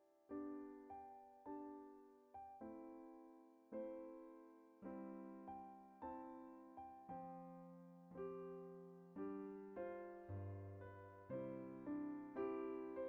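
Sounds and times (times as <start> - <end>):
solo piano melody: 0.0 - 13.0.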